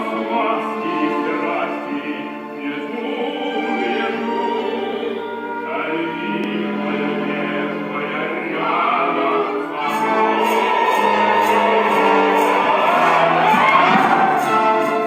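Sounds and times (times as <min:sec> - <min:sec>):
choir singing: 0:00.0 - 0:15.0
instrumental accompaniment: 0:00.0 - 0:15.0.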